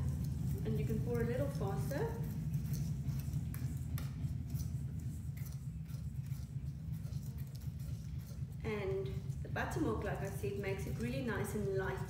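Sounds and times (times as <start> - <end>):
steady low hum: 0.0 - 12.0
whisk scraping metal bowl: 0.0 - 12.0.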